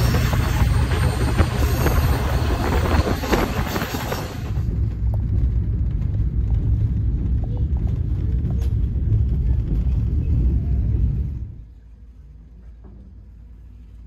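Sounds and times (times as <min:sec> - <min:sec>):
low hum: 0:00.0 - 0:14.0
passenger train rumbling: 0:00.0 - 0:14.0.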